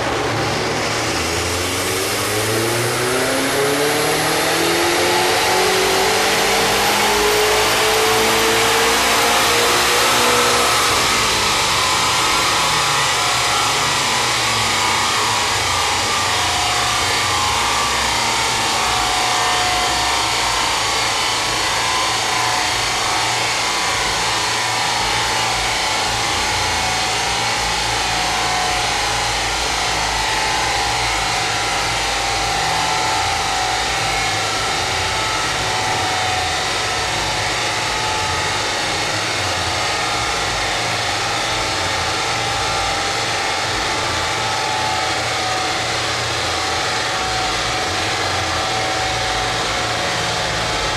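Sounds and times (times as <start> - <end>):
large cooling fan blowing: 0.0 - 50.9.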